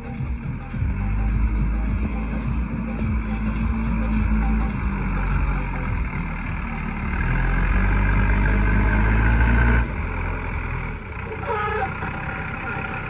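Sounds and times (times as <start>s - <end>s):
diesel engine working under load: 0.0s - 13.0s.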